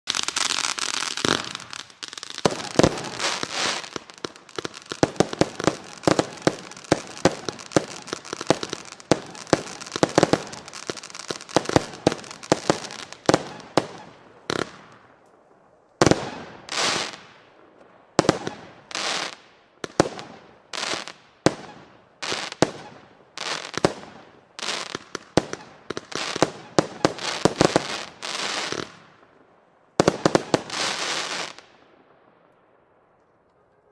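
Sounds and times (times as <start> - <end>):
fireworks crackle: 0.0 - 33.9
fireworks launches and bursts: 0.1 - 32.5.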